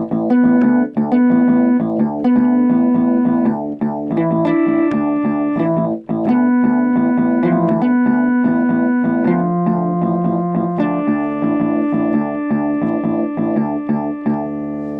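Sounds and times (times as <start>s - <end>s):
electric piano music: 0.0s - 14.9s.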